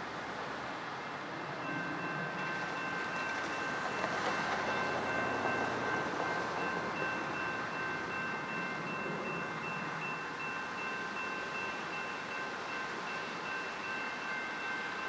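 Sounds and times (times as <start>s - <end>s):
distant train rumble: 0.0s - 15.0s
crossing warning bell ringing: 1.5s - 15.0s.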